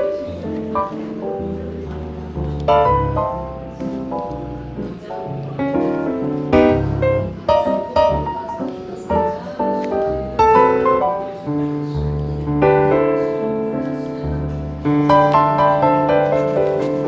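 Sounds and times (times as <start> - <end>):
smooth jazz piano music: 0.0 - 17.0.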